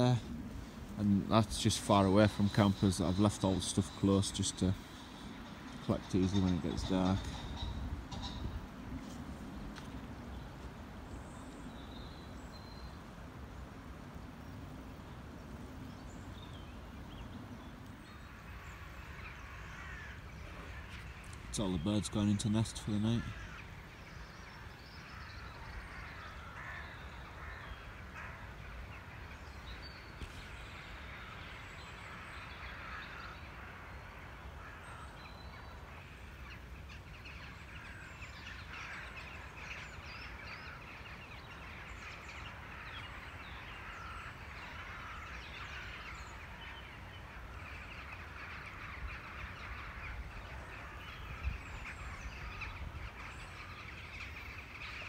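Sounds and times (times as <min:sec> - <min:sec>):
flock of crows cawing: 0:00.0 - 0:09.9, 0:17.8 - 0:55.0.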